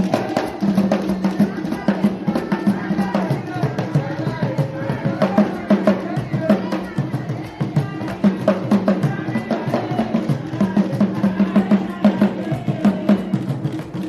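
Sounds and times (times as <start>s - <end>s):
music with drum rhythm: 0.0s - 14.0s.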